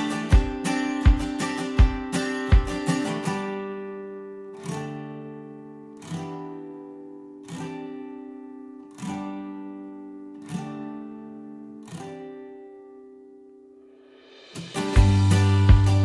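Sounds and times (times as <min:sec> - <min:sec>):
slow acoustic guitar strums: 0:00.0 - 0:16.0.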